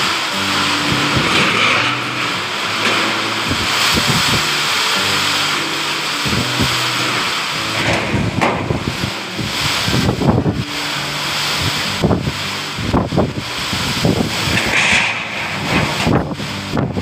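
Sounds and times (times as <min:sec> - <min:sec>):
background music low notes: 0:00.0 - 0:17.0
wind and heavy rain: 0:00.0 - 0:17.0
wind buffeting microphone: 0:00.7 - 0:04.6, 0:06.2 - 0:17.0.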